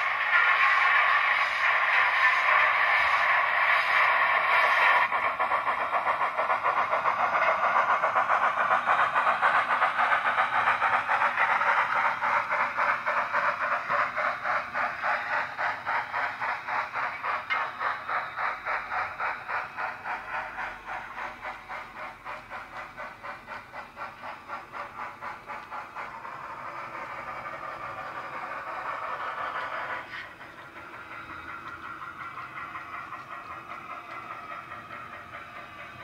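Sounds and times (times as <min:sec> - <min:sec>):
steam locomotive chuffing with hiss: 0:00.0 - 0:36.0.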